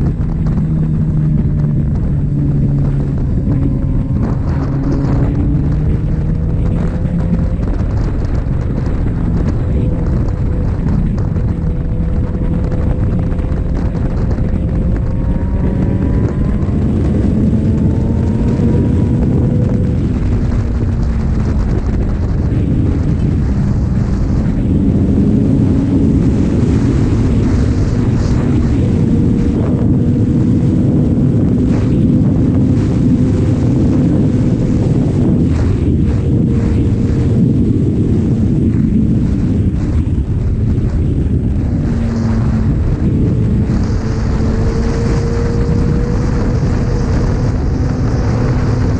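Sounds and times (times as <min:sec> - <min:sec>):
motorcycle engine: 0:00.0 - 0:48.9
wind rush on microphone: 0:00.0 - 0:48.9.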